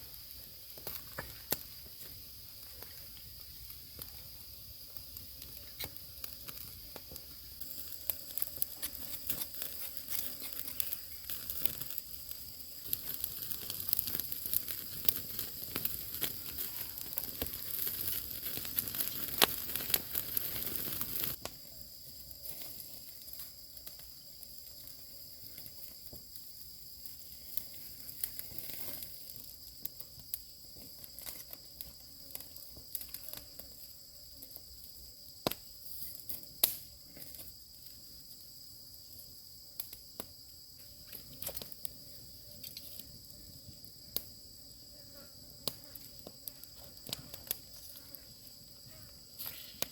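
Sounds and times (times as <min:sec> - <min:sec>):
crackling and crinkling: 0:00.0 - 0:34.7, 0:39.8 - 0:44.3, 0:45.2 - 0:49.9
high insect drone: 0:00.0 - 0:49.9.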